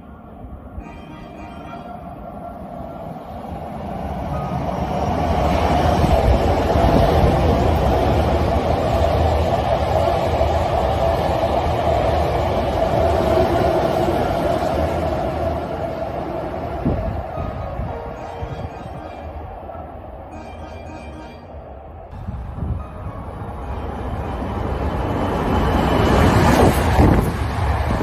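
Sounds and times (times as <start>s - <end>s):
electric train passing with whine: 0.0s - 28.0s.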